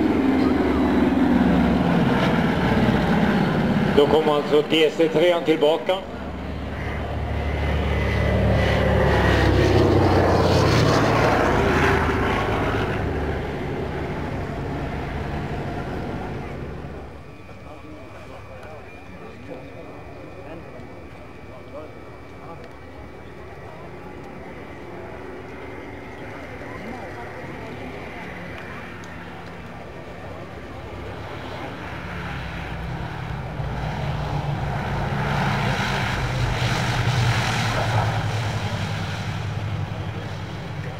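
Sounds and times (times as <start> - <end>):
propeller aircraft engines droning: 0.0 - 40.9.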